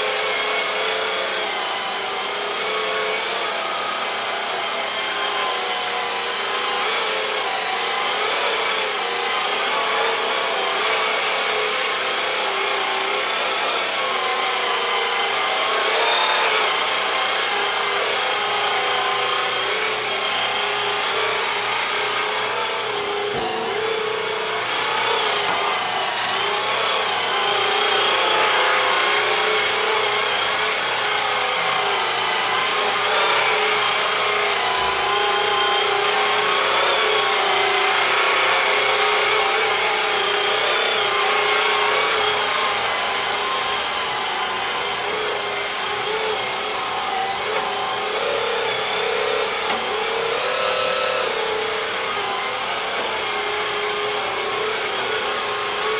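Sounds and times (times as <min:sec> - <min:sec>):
sweeper motor whine: 0:00.0 - 0:55.9.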